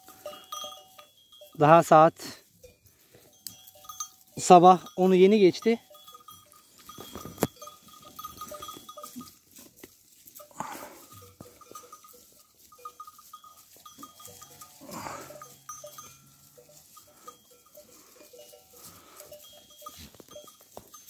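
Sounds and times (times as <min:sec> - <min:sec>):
goat bells clinking: 0:00.0 - 0:21.0.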